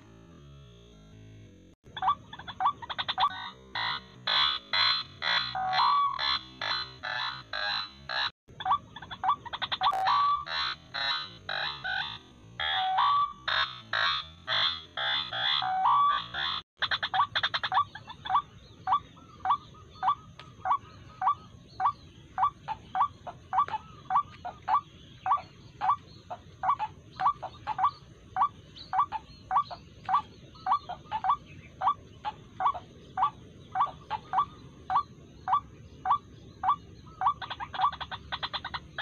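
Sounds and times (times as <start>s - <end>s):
waterhen calling: 2.0s - 39.0s.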